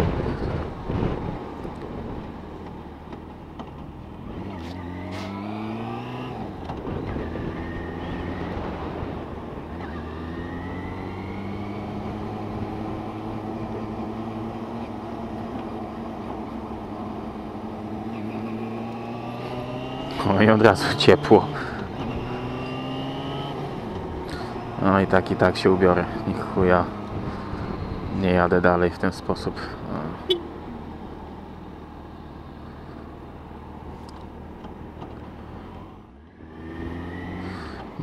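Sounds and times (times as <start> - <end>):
motorcycle engine accelerating: 0.0 - 28.4, 29.5 - 38.0.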